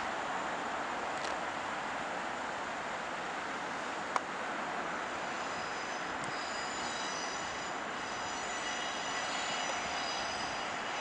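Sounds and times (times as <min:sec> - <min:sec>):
train engine and rail noise: 0:00.0 - 0:11.0.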